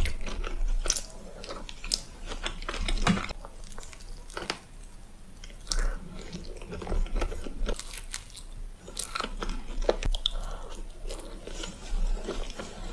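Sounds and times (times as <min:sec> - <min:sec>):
crunchy pastry chewing: 0:00.0 - 0:12.9.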